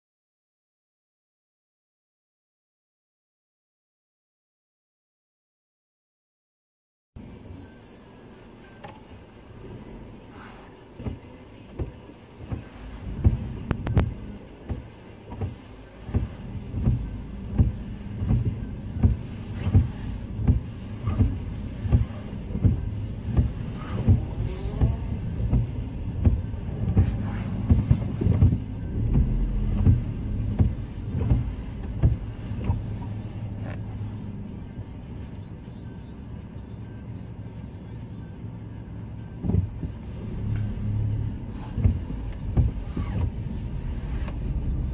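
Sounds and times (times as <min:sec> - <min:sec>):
car cabin hum: 0:07.2 - 0:44.9.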